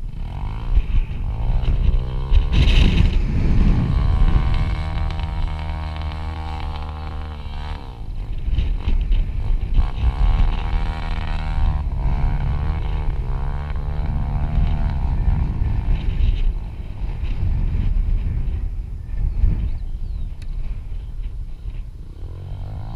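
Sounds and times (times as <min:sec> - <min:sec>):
motorcycle engine revving: 0:00.0 - 0:22.9
wind rumble on microphone: 0:00.0 - 0:22.9.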